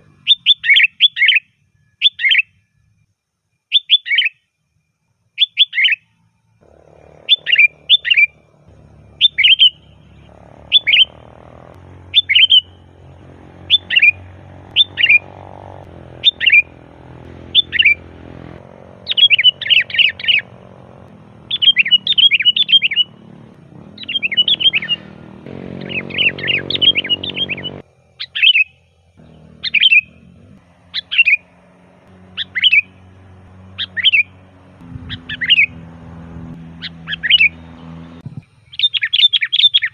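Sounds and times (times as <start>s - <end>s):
bulbul singing: 5.4s - 39.9s.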